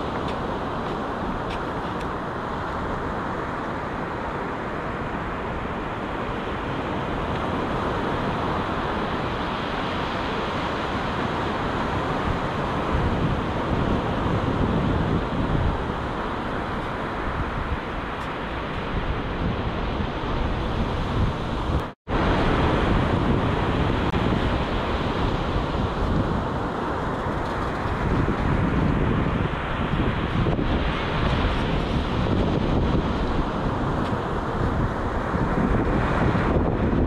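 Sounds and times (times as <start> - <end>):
surf washing on sand: 0.0 - 37.0
wind buffeting microphone: 0.0 - 37.0.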